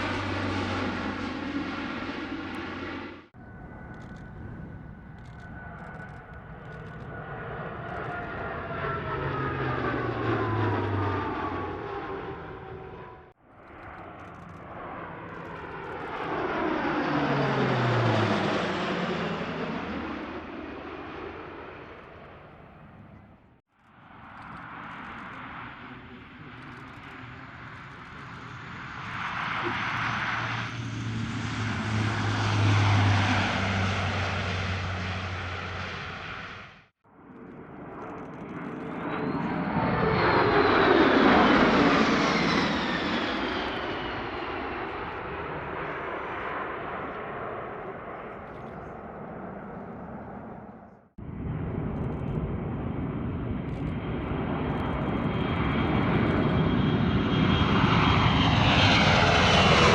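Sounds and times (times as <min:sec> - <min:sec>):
aircraft flying past: 0:00.0 - 0:59.9.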